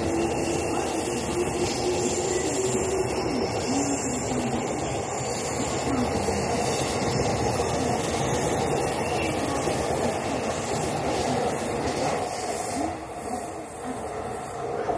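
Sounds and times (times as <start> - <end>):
electric train running past: 0.0 - 14.9.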